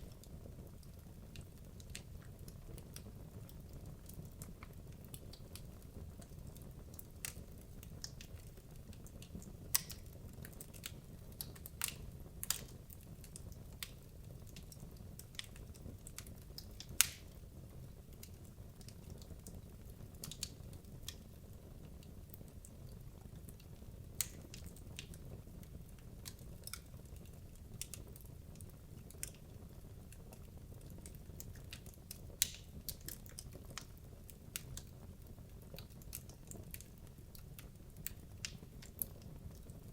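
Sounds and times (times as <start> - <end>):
burning wood crackling and popping: 0.0 - 39.9.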